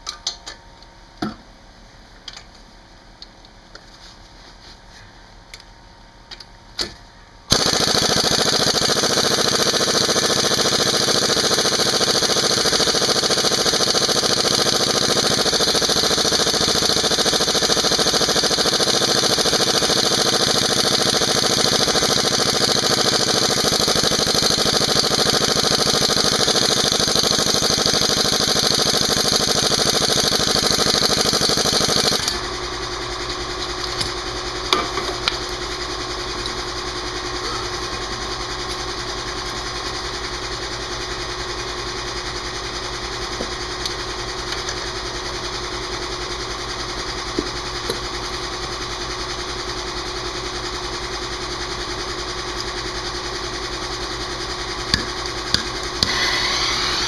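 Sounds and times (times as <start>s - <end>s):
air compressor running: 7.5s - 57.0s.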